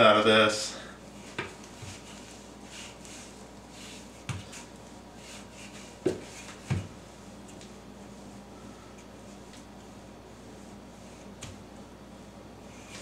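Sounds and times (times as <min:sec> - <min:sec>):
rolling pin swishing on dough: 0:01.1 - 0:13.0.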